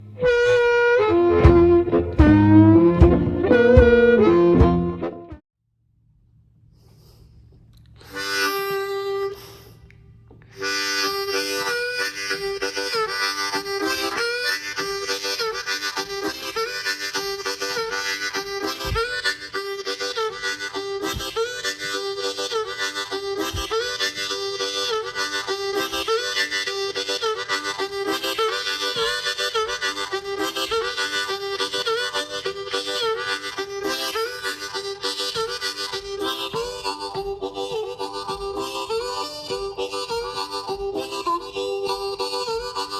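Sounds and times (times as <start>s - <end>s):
harmonica blues riff: 0.0s - 5.4s, 8.0s - 42.9s.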